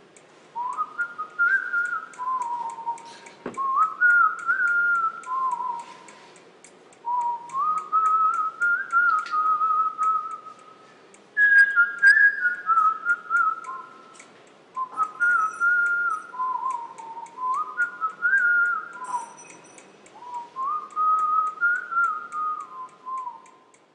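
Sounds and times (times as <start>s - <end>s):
faint even ticking: 0.0s - 23.9s
person whistling a tune: 0.6s - 6.1s, 7.0s - 10.8s, 11.4s - 14.1s, 14.8s - 23.6s.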